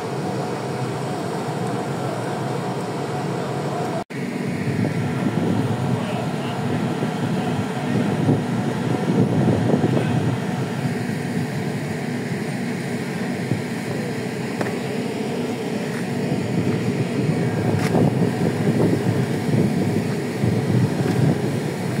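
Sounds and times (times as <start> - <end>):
ship engine rumble: 0.0 - 22.0.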